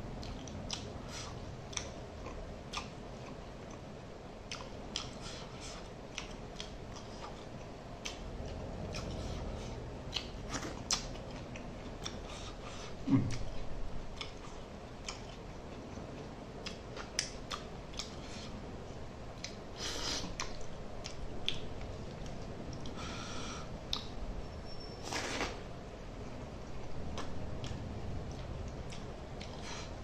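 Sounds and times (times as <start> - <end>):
chewing and lip smacking: 0.2 - 18.4, 19.4 - 23.0, 23.9 - 24.2, 26.2 - 29.8.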